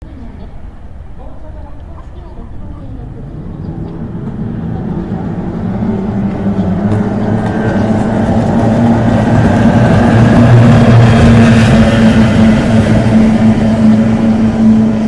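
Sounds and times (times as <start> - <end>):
powerboat engines droning: 0.0 - 15.0.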